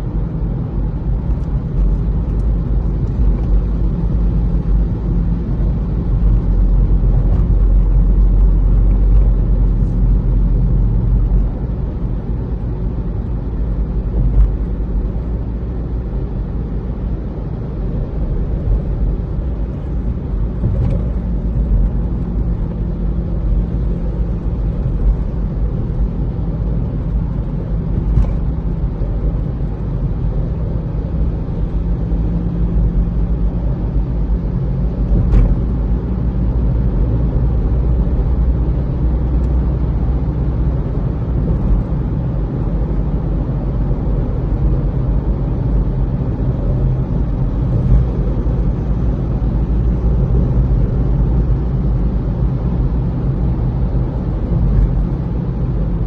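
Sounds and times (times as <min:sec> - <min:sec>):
car cabin rumble in tunnel: 0:00.0 - 0:56.0.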